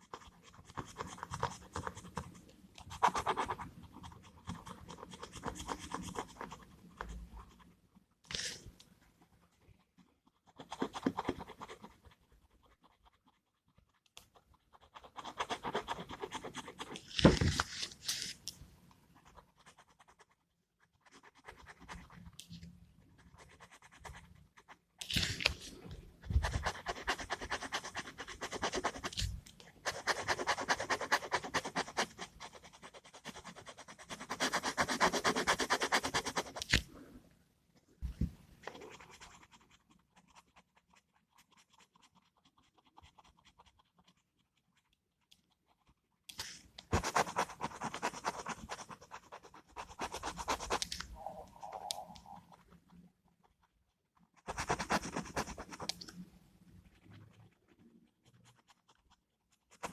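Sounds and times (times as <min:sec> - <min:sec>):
pen scratching on paper: 0:00.0 - 0:18.4, 0:19.0 - 0:36.9, 0:38.1 - 0:59.9.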